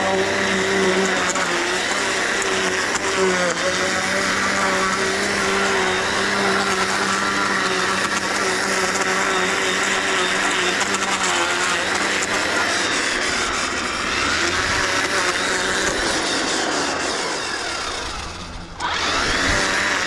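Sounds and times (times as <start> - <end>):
gas string trimmer cutting grass: 0.0 - 20.0.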